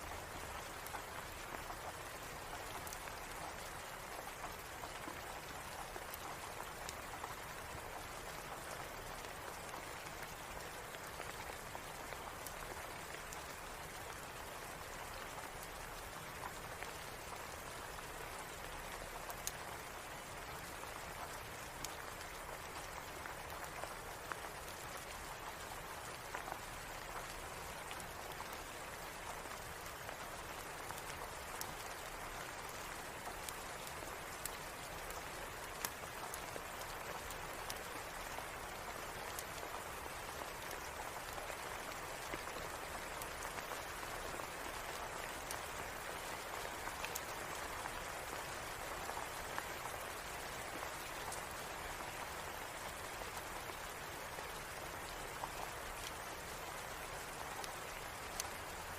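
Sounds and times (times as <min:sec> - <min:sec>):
raindrops ticking: 0:00.0 - 0:58.9.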